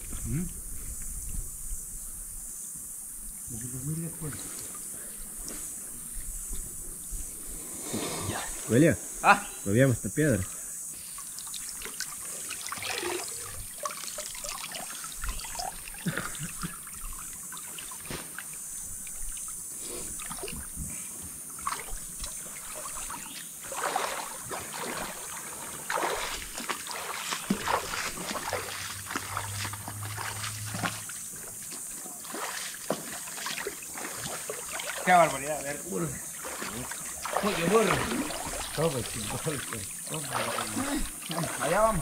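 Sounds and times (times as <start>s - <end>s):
river water trickling and splashing: 3.0s - 7.9s, 10.3s - 42.0s.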